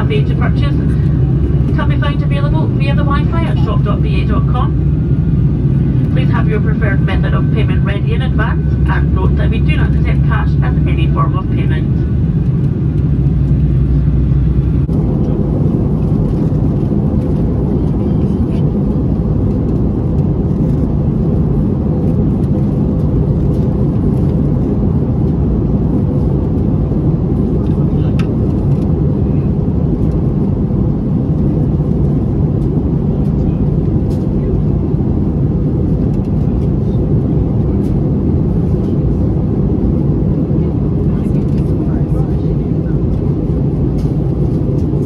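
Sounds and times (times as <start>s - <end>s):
jet engine drone: 0.0s - 45.0s.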